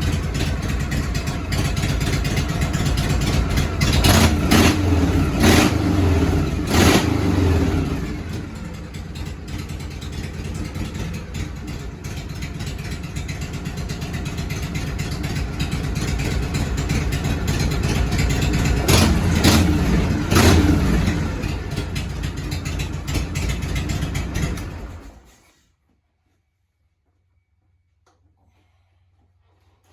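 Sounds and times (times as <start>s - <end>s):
motorcycle engine revving and idling: 0.0s - 25.4s.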